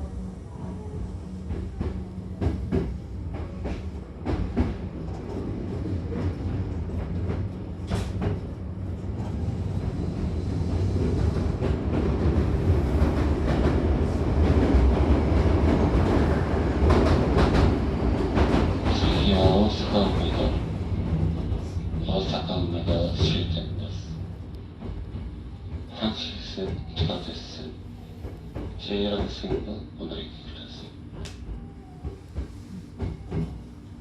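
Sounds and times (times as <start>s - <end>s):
train running rumble: 0.0s - 34.0s.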